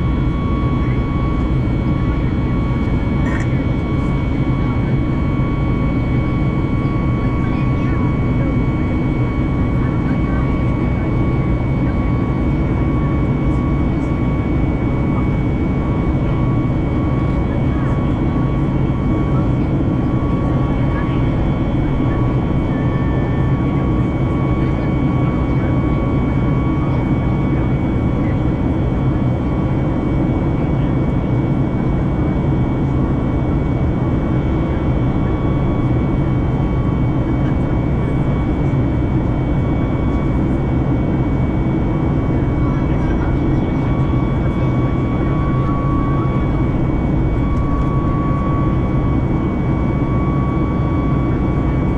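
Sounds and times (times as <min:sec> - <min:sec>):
jet engine low rumble: 0:00.0 - 0:51.9.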